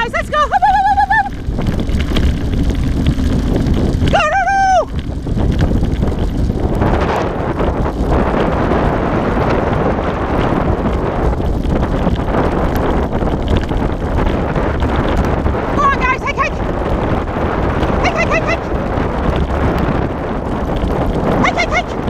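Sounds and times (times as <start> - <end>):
dog sled rig rumbling: 0.0 - 22.0
wind buffeting microphone: 0.0 - 22.0.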